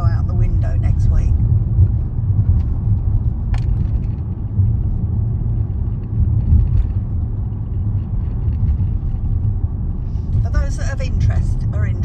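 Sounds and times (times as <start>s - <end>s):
car engine rumble: 0.0s - 12.0s
tyres on the road: 0.0s - 12.0s.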